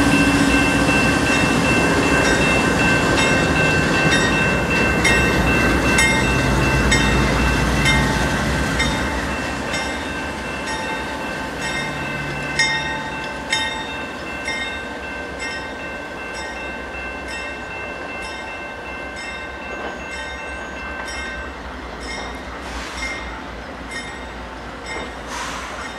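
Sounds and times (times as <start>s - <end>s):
diesel locomotive engines rumbling: 0.0s - 25.9s.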